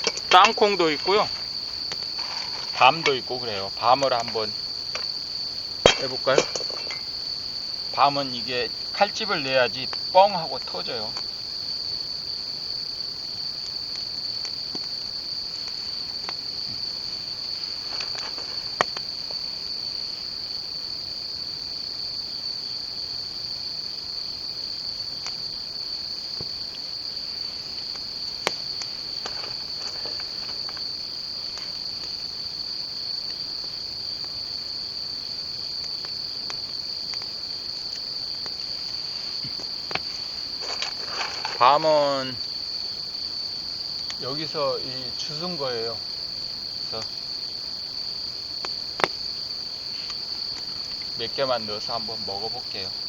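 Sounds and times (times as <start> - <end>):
night insects chirring: 0.0 - 53.0.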